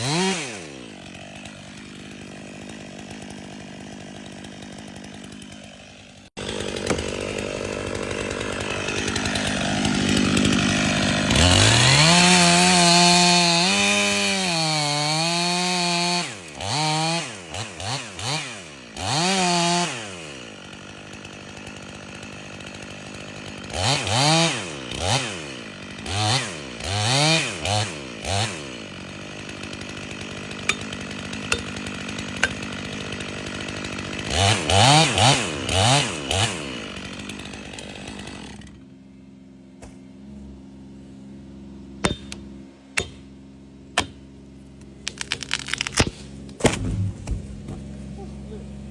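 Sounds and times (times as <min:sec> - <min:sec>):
chainsaw revving and idling: 0:00.0 - 0:48.9.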